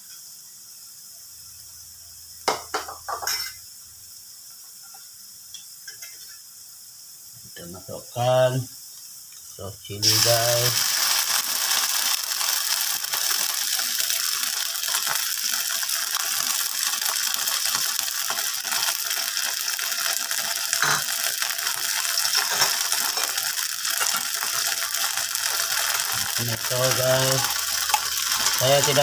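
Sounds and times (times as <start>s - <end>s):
hot oil sizzling in a wok: 0.0s - 29.0s.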